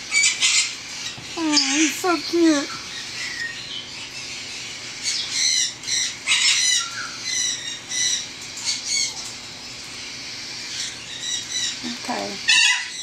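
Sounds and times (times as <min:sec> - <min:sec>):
parrot chicks squawking: 0:00.0 - 0:13.0.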